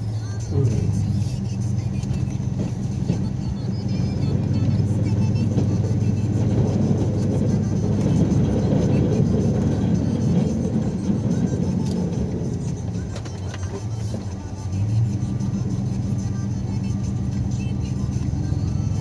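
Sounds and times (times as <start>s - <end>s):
snowplow engine droning: 0.0s - 19.0s.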